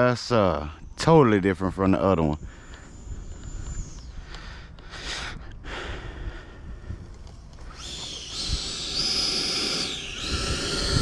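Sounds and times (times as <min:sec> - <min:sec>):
electric ducted fan whine: 0:00.0 - 0:11.0
low wind rumble: 0:00.0 - 0:11.0.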